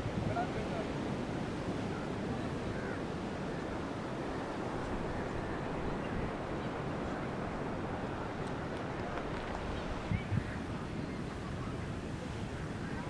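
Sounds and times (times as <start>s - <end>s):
ocean surf: 0.0s - 13.0s
wind on microphone: 0.0s - 13.0s.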